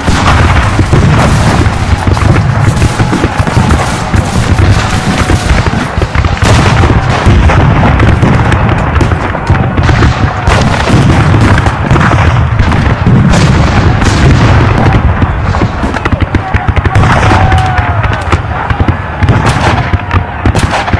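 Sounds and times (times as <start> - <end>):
cannon booms rumbling: 0.0 - 20.9
rapid rifle fire crackling: 0.0 - 20.9.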